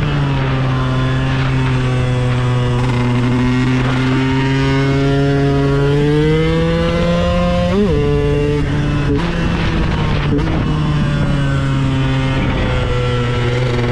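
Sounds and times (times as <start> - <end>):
two-stroke motorcycle engine revving: 0.0 - 13.9.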